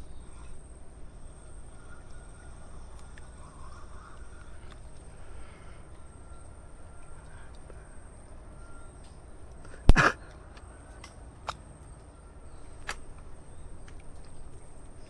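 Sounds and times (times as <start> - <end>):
faint clicks: 1.8 - 7.8, 8.6 - 15.0.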